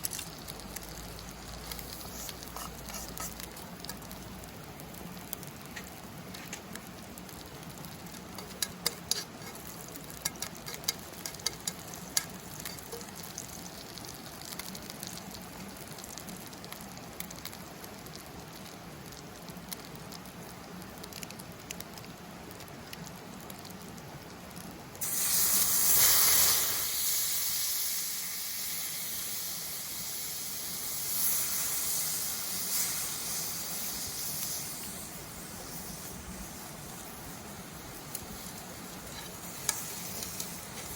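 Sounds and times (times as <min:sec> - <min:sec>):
food sizzling in pan: 0:00.0 - 0:19.2, 0:25.0 - 0:40.9
campfire crackling and popping: 0:00.0 - 0:40.9.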